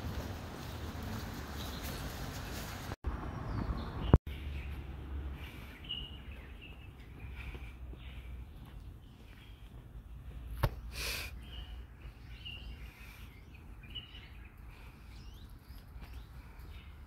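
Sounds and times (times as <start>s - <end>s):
small birds chirping: 0.7s - 17.0s.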